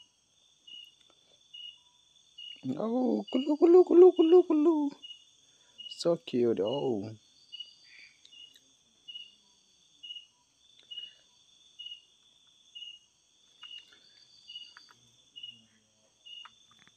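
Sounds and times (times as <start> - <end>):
insect chirp: 0.0 - 16.9
insect high-pitched trill: 0.0 - 16.9.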